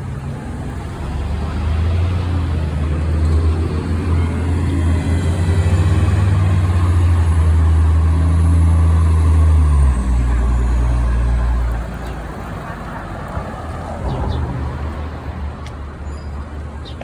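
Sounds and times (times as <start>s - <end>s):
bus engine running under load: 0.0s - 16.9s.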